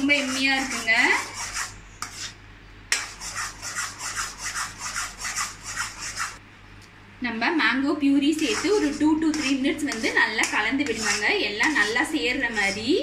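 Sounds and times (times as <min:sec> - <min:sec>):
spatula scraping a wok: 0:00.0 - 0:06.4, 0:08.4 - 0:13.0.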